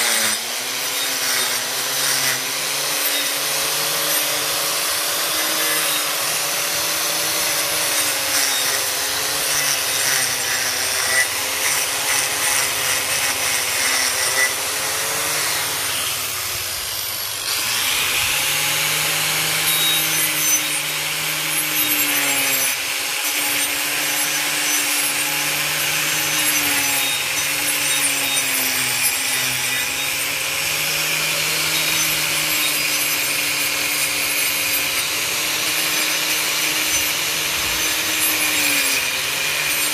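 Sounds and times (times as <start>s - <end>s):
angle grinder grinding wood: 0.0s - 39.9s.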